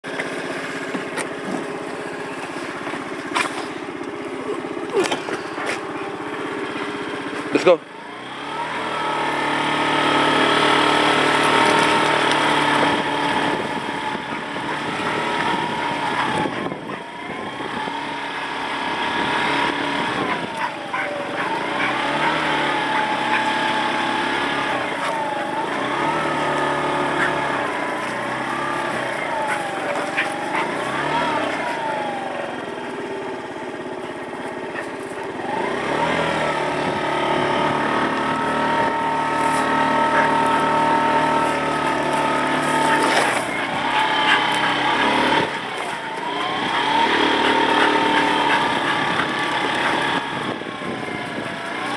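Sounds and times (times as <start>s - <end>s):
small motorbike engine revving: 0.0s - 51.9s.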